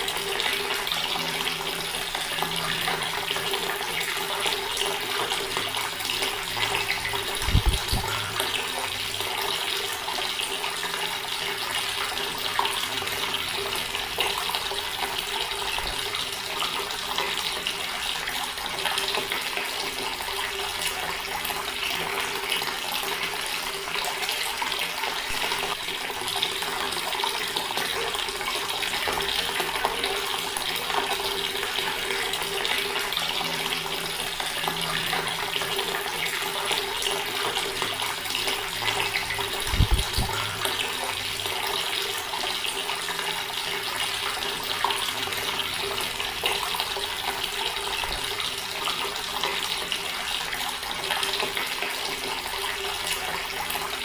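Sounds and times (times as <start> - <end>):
water running from a tap: 0.0 - 54.0.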